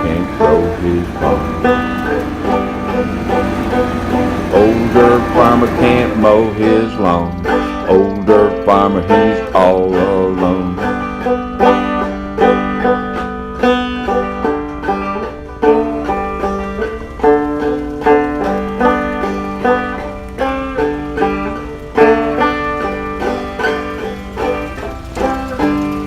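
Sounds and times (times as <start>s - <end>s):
banjo playing old-time tune: 0.0s - 26.0s.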